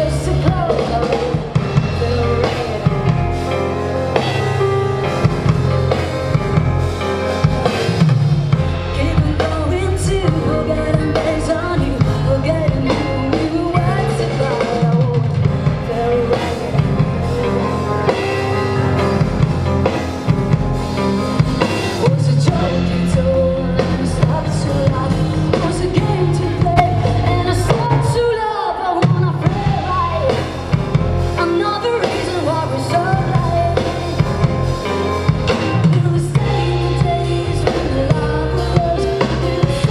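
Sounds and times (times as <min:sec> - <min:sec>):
person singing: 0:00.0 - 0:06.4, 0:07.5 - 0:20.2, 0:21.4 - 0:39.9
bass guitar: 0:00.0 - 0:39.9
drum kit: 0:00.0 - 0:39.9
live rock band playing: 0:00.0 - 0:39.9.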